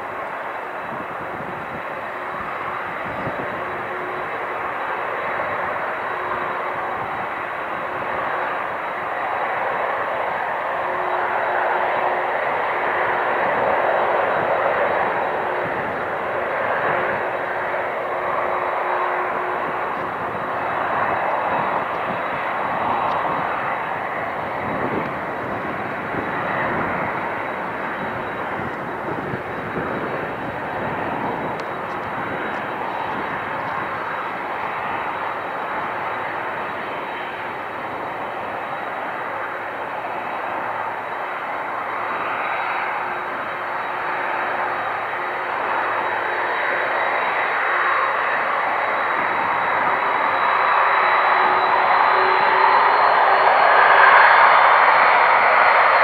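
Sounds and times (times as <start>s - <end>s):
high steady whine: 0.0s - 56.0s
jet engines at takeoff power: 0.0s - 56.0s.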